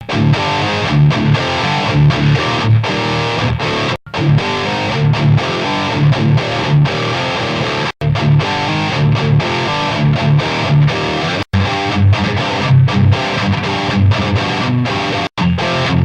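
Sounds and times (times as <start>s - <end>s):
distorted electric guitar riff: 0.0s - 16.0s.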